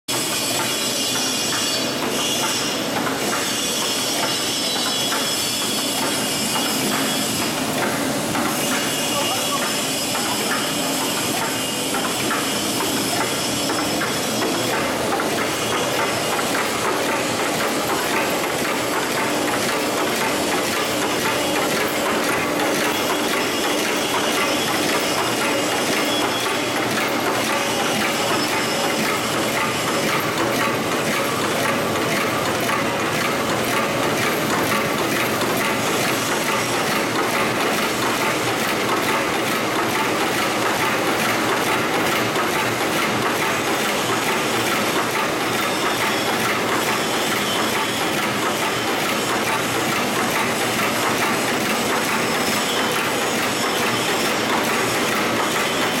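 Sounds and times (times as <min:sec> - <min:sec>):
machine clattering: 0:00.1 - 0:56.0.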